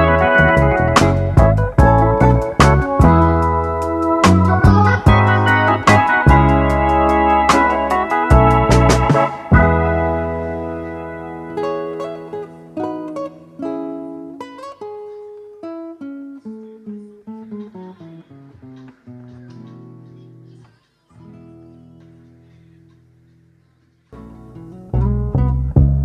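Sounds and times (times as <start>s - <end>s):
acoustic guitar picking: 0.0s - 26.0s.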